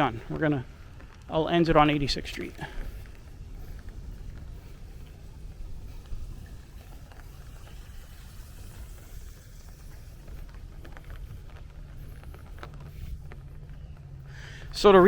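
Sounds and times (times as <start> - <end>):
rain pattering on an umbrella: 0.0 - 15.0
steady low rumble: 0.0 - 15.0.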